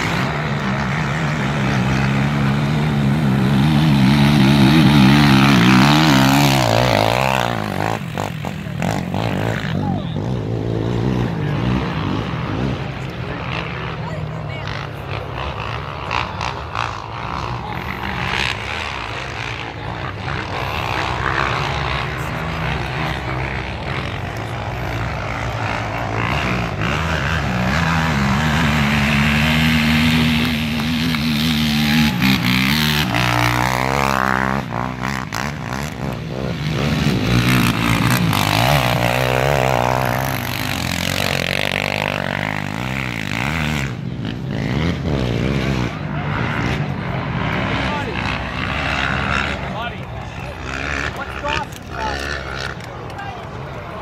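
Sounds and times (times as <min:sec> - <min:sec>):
quad engines revving hard: 0:00.0 - 0:54.0.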